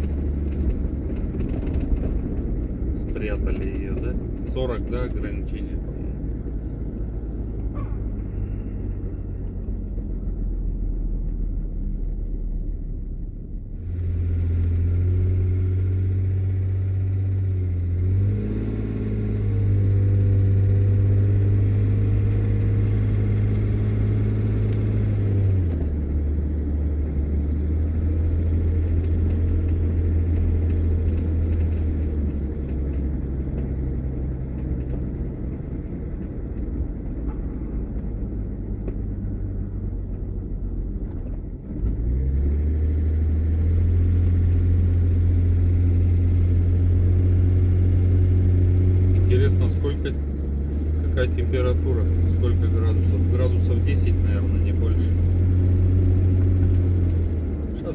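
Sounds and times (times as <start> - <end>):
vehicle engine droning: 0.0 - 57.9.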